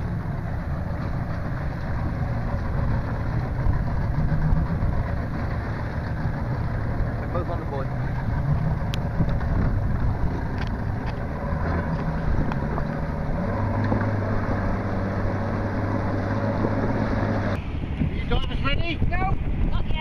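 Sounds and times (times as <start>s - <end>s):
outboard motor running: 0.0s - 19.6s
wind buffeting microphone: 0.0s - 20.0s.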